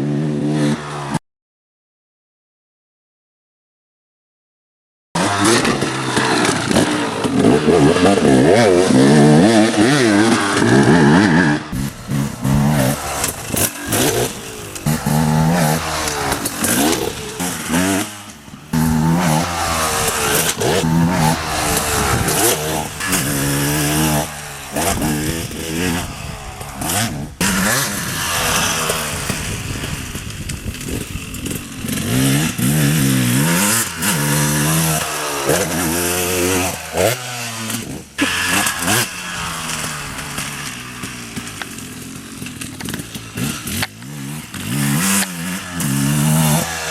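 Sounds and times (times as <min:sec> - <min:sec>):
dirt bike engine revving: 0:05.2 - 0:46.9.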